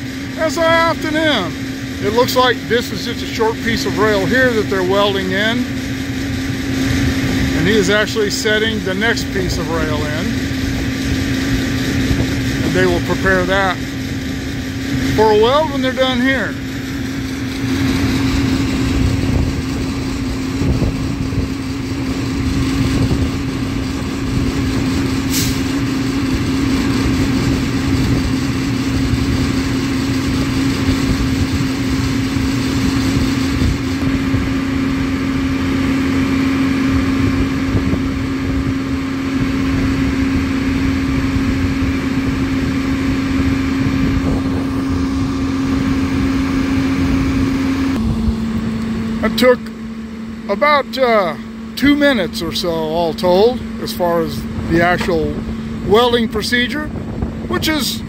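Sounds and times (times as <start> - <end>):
welding truck humming: 0.0 - 58.0.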